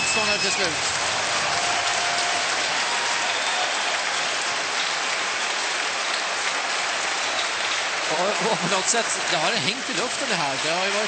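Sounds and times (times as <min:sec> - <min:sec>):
crowd applauding and cheering: 0:00.0 - 0:11.0.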